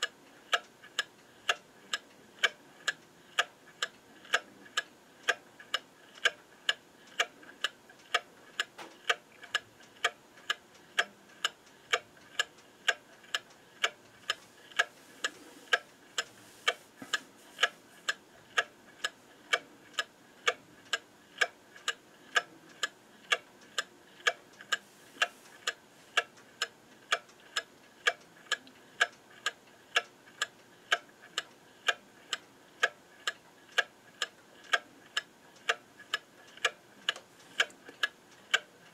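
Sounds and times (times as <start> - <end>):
clock ticking: 0.0 - 14.9, 15.7 - 16.8, 17.6 - 38.9.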